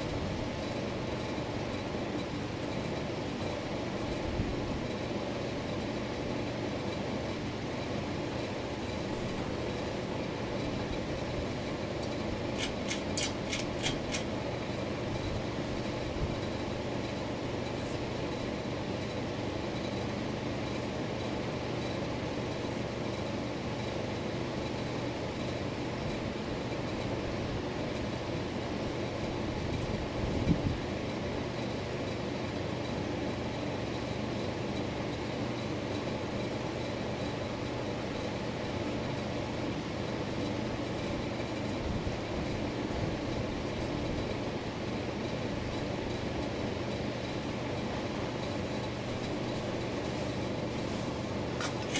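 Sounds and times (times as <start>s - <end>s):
ceiling fan running: 0.0s - 51.9s.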